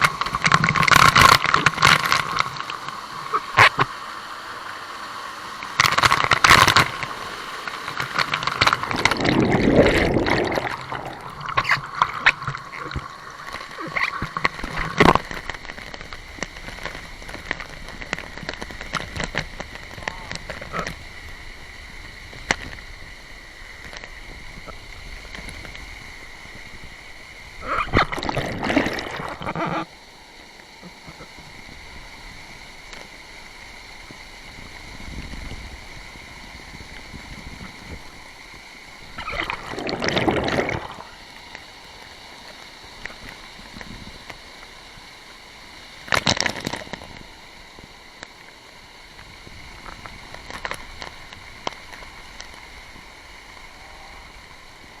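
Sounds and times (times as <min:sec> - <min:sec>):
water splashing surges: 0:00.0 - 0:55.0
waterfall running water: 0:00.0 - 0:55.0.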